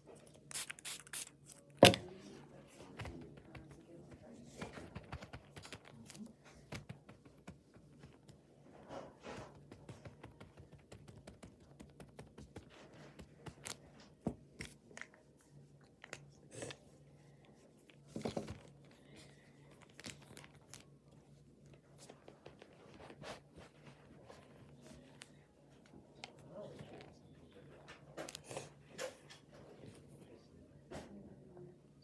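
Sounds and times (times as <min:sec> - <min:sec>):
faint low hum: 0:01.2 - 0:32.0.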